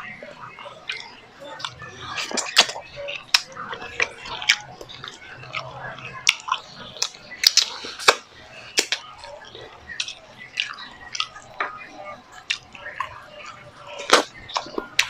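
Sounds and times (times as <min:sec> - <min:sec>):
wet chewing and lip smacking: 0:00.6 - 0:15.0.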